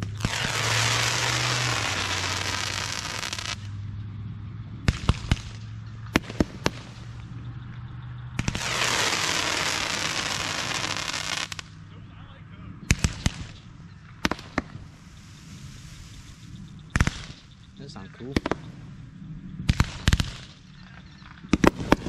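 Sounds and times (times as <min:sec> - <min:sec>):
fireworks bangs: 0:00.0 - 0:03.7, 0:04.8 - 0:07.4, 0:08.4 - 0:11.8, 0:12.8 - 0:19.0, 0:19.6 - 0:22.0
fireworks crackling: 0:00.0 - 0:03.8, 0:04.9 - 0:07.4, 0:08.4 - 0:11.8, 0:12.9 - 0:22.0.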